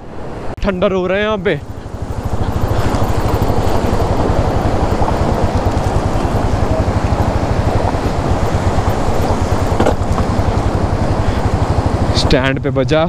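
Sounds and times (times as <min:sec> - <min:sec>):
rushing noise of rolling tyres: 0:01.2 - 0:12.6
motorcycle engine thumping: 0:01.6 - 0:12.2.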